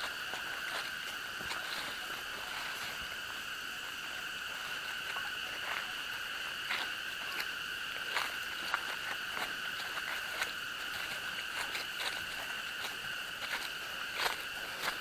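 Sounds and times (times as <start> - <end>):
faint crackles: 0.0 - 15.0
insect chorus drone: 0.0 - 15.0.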